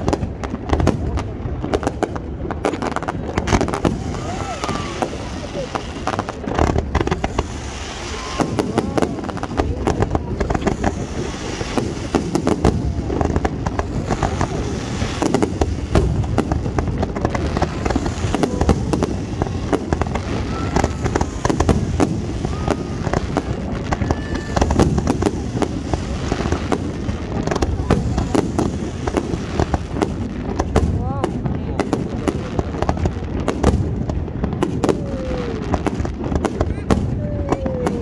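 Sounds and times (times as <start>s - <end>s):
fireworks popping and banging: 0.0s - 38.0s.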